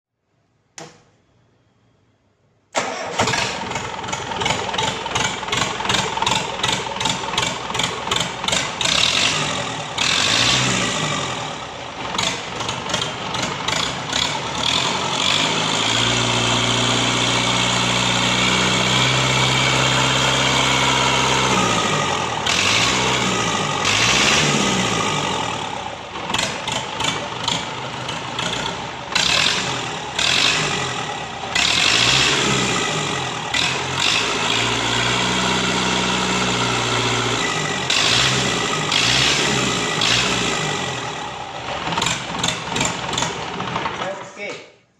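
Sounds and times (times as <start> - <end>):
diesel engine running and revving: 3.1 - 44.1.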